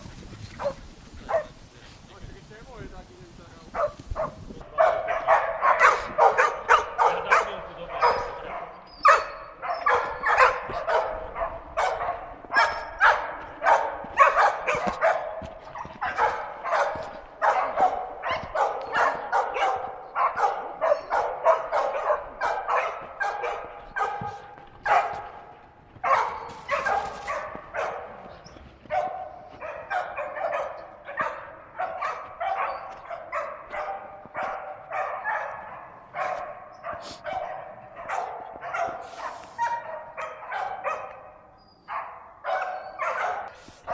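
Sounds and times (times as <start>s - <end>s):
dog barking: 0.6s - 1.6s, 3.7s - 43.9s.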